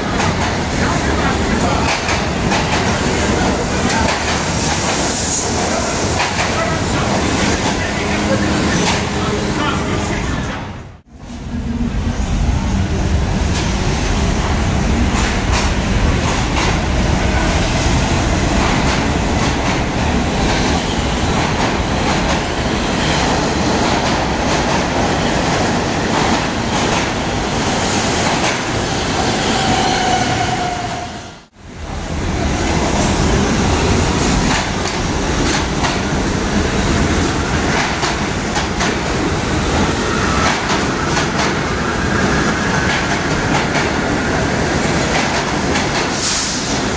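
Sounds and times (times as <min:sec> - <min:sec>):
subway train wheels clattering: 0:00.0 - 0:46.9.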